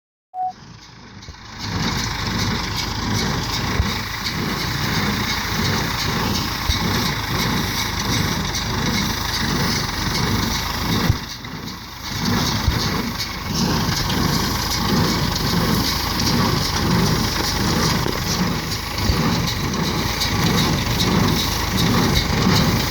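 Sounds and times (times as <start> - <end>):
tractor engine running: 0.4 - 22.9.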